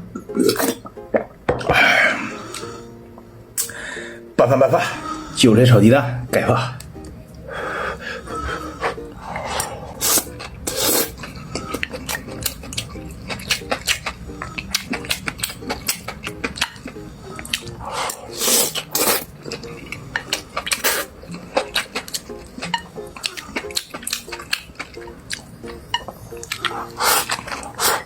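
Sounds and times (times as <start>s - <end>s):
faint background music: 0.0s - 28.0s.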